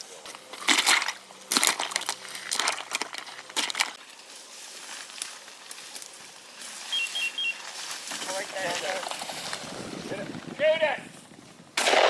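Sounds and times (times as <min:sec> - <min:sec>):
footsteps crunching dry vegetation: 0:00.0 - 0:11.6.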